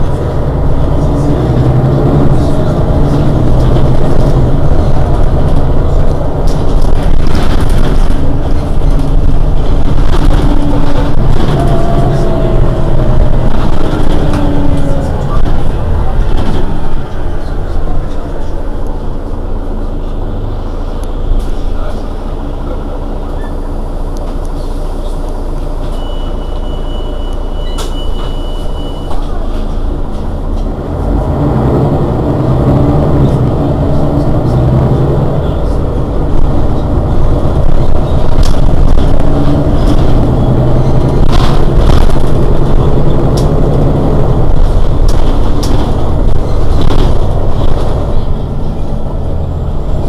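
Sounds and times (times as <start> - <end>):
bus diesel engine idling: 0.0 - 50.0.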